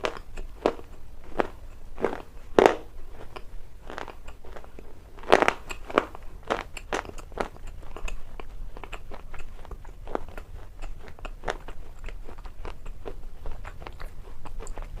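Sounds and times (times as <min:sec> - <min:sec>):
low steady hum: 0:00.0 - 0:15.0
watermelon crunching and chewing: 0:00.0 - 0:15.0.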